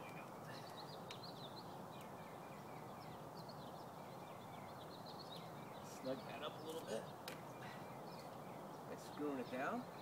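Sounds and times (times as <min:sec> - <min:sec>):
small birds chirping: 0:00.0 - 0:10.0
steady outdoor background noise: 0:00.0 - 0:10.0.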